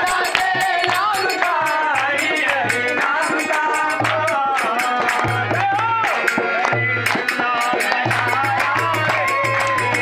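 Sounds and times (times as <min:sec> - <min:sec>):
hand drum beat: 0:00.0 - 0:10.0
harmonium: 0:00.0 - 0:10.0
man singing: 0:00.0 - 0:10.0.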